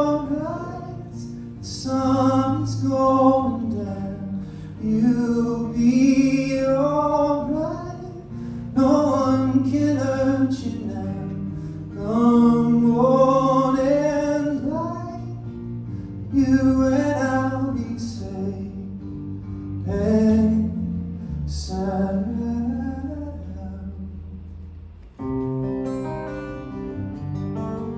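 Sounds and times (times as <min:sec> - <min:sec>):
man singing: 0:00.0 - 0:15.6, 0:16.2 - 0:19.2, 0:19.8 - 0:24.4
acoustic guitar: 0:00.0 - 0:27.9.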